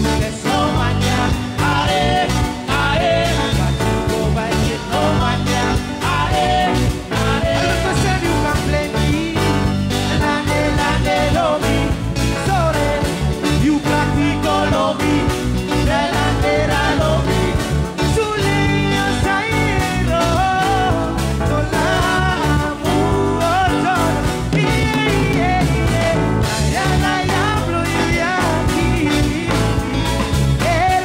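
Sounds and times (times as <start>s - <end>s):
live band music: 0.0s - 31.0s
man singing: 0.0s - 31.0s.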